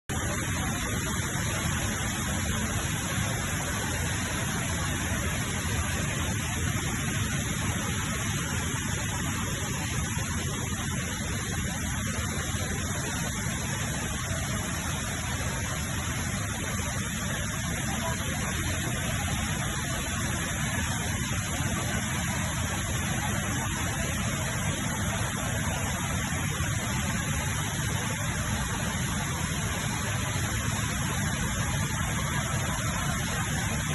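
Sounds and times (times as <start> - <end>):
rush of falling water: 0.0 - 33.9.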